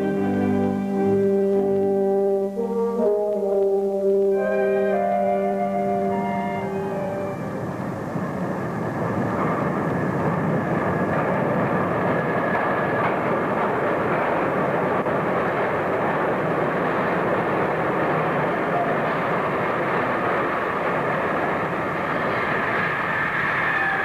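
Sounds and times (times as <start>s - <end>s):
subway train running: 0.0s - 24.0s.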